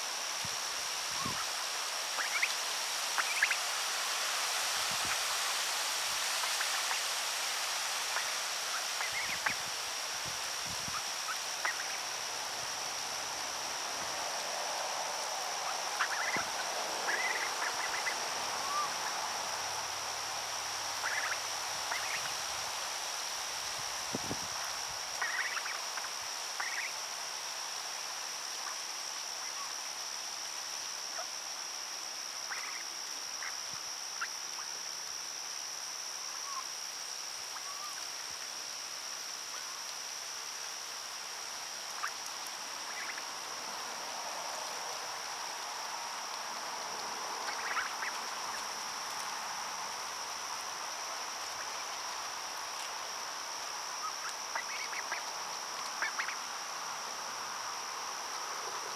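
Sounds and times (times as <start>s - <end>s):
insect chorus: 0.0s - 58.9s.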